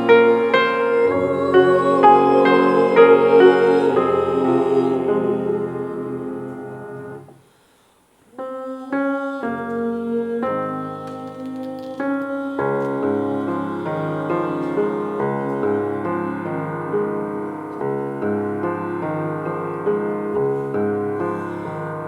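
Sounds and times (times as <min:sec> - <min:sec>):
piano playing slow chords: 0:00.0 - 0:07.4, 0:08.4 - 0:22.0.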